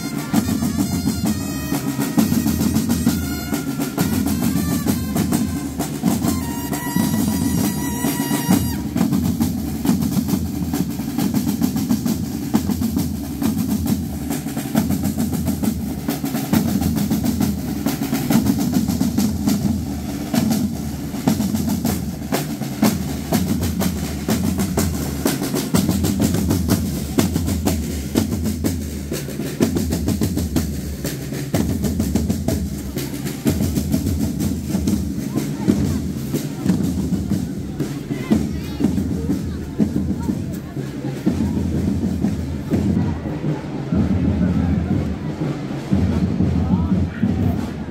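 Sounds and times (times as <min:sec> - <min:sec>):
bass drum beats: 0:00.0 - 0:47.9
snare drum roll: 0:00.0 - 0:47.9.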